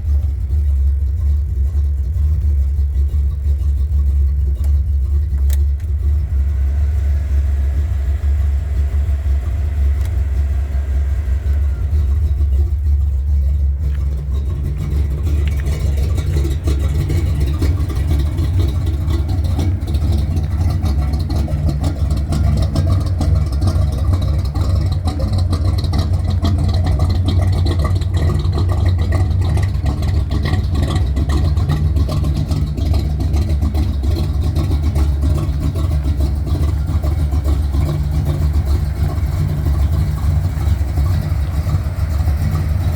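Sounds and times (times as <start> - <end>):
pickup truck engine running: 0.0 - 42.9.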